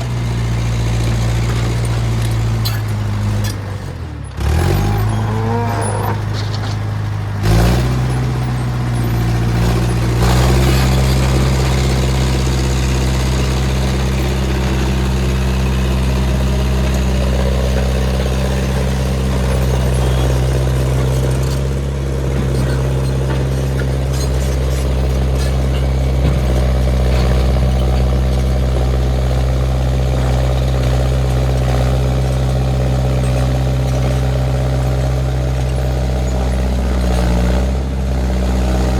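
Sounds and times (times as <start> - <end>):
loader engine idling: 0.0 - 38.9.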